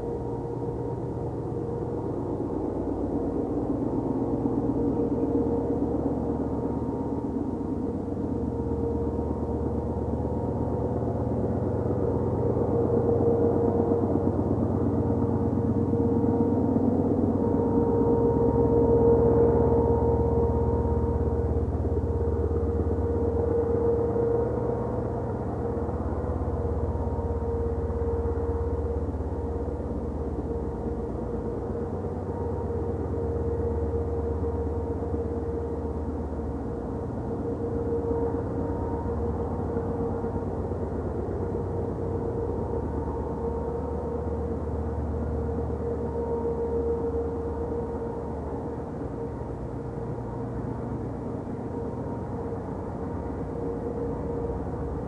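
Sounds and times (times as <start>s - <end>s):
distant diesel locomotive drone: 0.0s - 55.0s.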